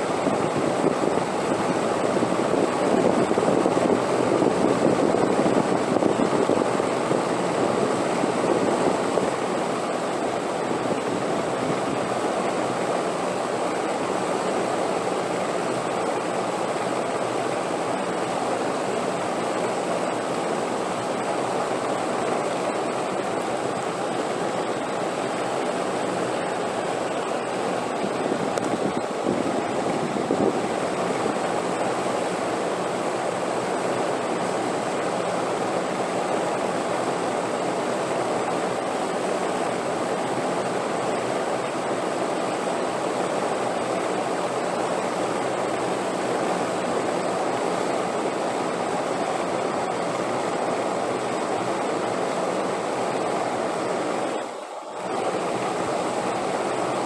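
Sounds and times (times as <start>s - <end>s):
steady wind: 0.0s - 57.0s.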